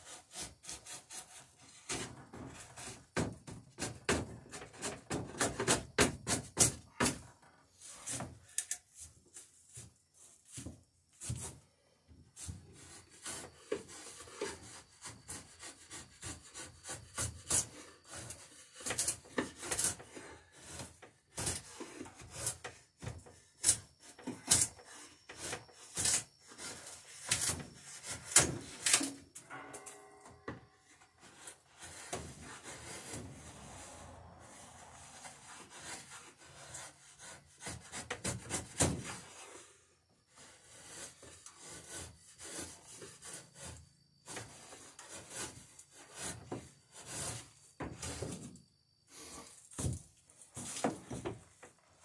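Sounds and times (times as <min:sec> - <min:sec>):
hand tool scraping wood: 0:00.0 - 0:11.8, 0:12.4 - 0:52.0.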